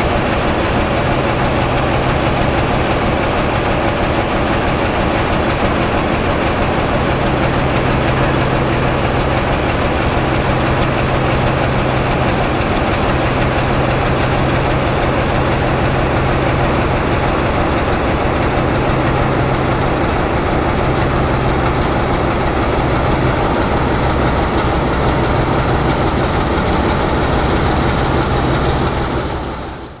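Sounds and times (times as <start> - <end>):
diesel locomotive engine idling: 0.0 - 30.0.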